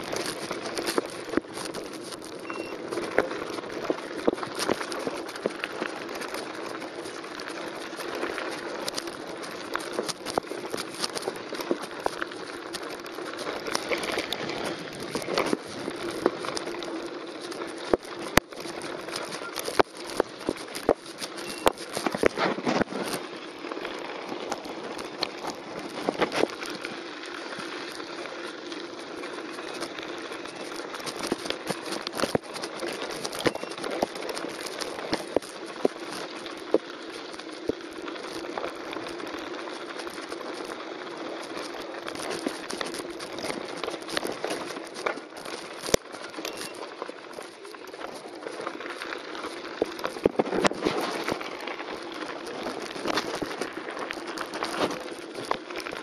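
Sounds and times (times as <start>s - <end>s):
bike rattling over bumps: 0.0s - 56.0s
tyres crunching over stones: 0.0s - 56.0s.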